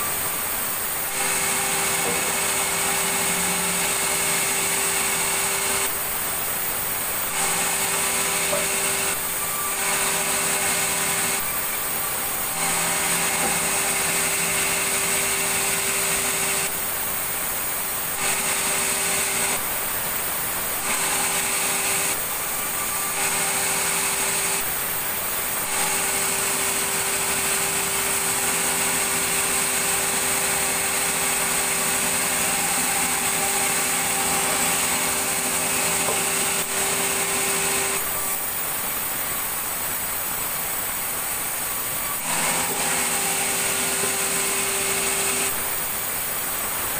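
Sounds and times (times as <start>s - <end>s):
power saw cutting wood: 0.0s - 46.9s.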